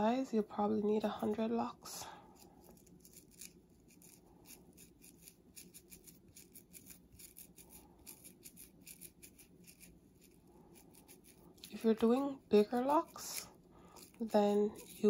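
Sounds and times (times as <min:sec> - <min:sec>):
scratchy crochet needle strokes in hair: 0:01.2 - 0:15.0.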